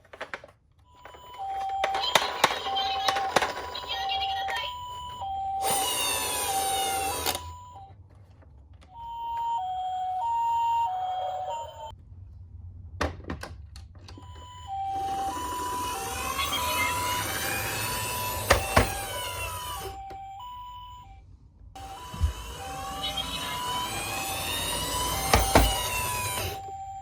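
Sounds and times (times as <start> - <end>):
toy two-tone siren: 0.9 - 7.9, 8.9 - 11.9, 14.2 - 21.2, 21.8 - 27.0.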